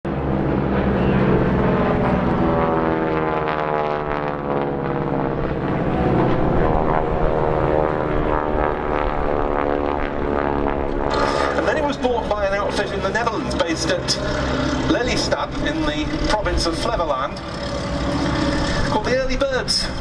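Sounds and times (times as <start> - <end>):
propeller plane passing overhead: 0.1 - 20.0.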